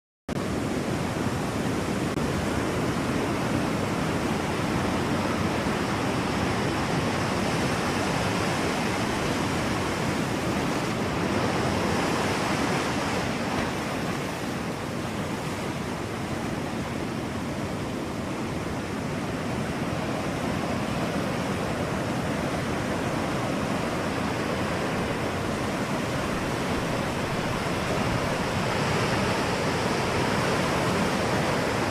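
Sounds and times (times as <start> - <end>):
waves breaking: 0.4 - 31.9.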